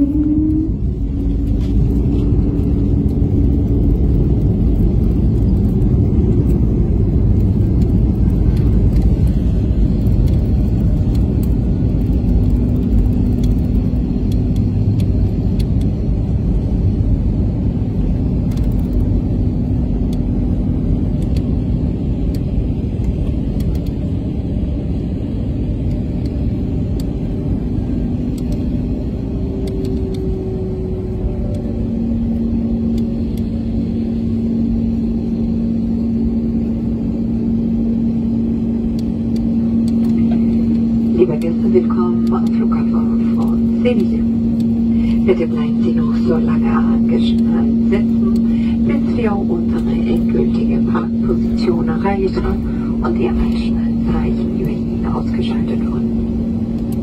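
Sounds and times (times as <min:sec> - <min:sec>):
faint humming tone: 0:00.0 - 0:57.0
jet engines and wheels rumbling: 0:00.0 - 0:57.0.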